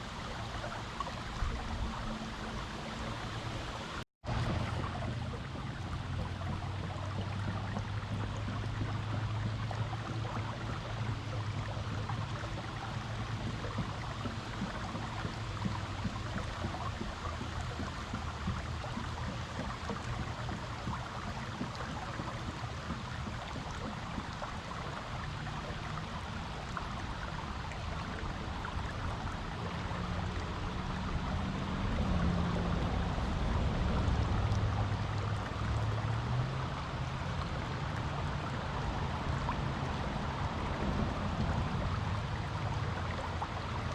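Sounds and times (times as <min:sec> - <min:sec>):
creek water flowing over rocks: 0:00.0 - 0:43.9.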